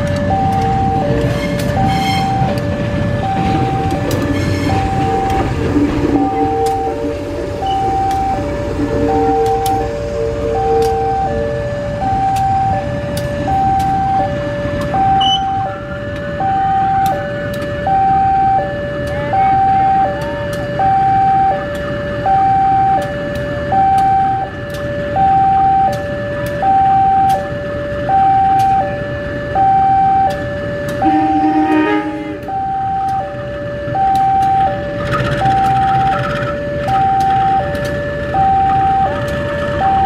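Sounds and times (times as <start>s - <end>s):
locomotive rumble: 0.0s - 40.0s
two-tone crossing alarm: 0.0s - 40.0s.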